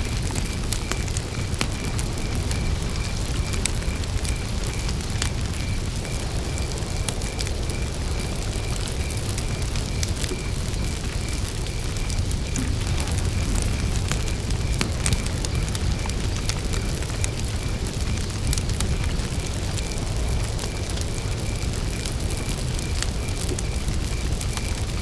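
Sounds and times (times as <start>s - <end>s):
campfire crackling and popping: 0.0s - 25.0s
cricket chirping: 0.0s - 25.0s.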